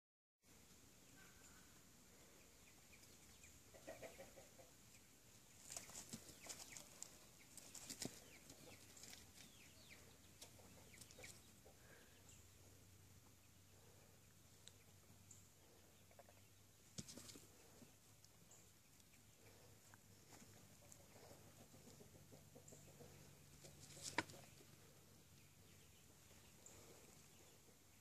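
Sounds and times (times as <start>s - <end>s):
low steady hiss: 0.4s - 28.0s
faint bird chirps and clucking: 0.5s - 28.0s.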